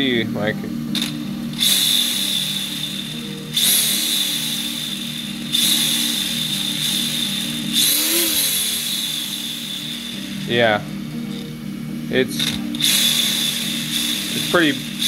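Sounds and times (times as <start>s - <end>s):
electric motor whirring: 0.0s - 15.0s.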